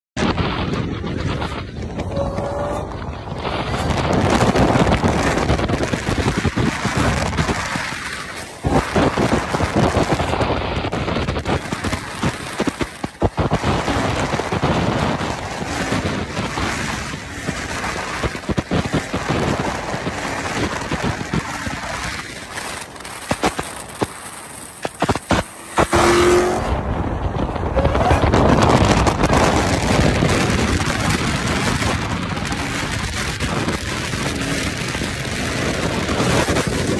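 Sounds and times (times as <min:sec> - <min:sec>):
road and tyre noise: 0:00.0 - 0:36.9
wind buffeting microphone: 0:00.2 - 0:36.9.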